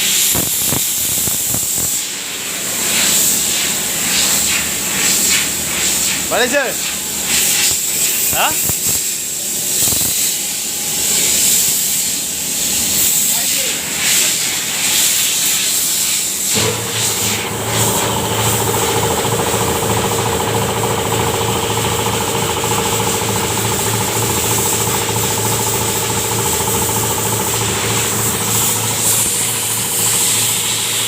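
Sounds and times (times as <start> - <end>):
electric compressor chugging: 0.0 - 31.0
hiss: 0.0 - 31.0.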